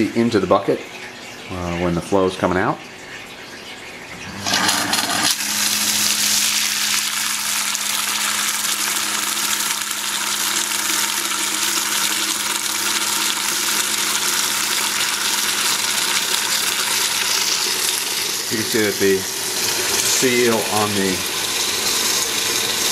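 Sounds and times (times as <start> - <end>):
pump humming: 2.8 - 22.9
coolant splashing into plastic bucket: 4.2 - 22.9.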